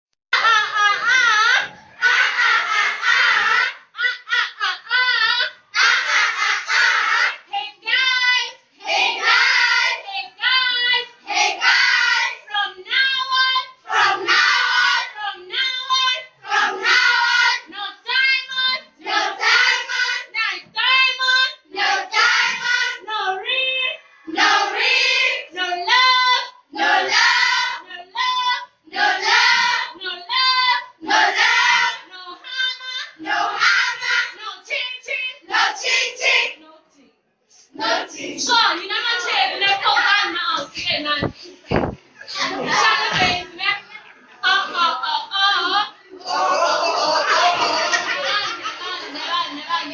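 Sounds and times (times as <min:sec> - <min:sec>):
children singing together: 0:00.4 - 0:23.5, 0:24.3 - 0:36.6, 0:37.8 - 0:40.4, 0:41.2 - 0:49.9.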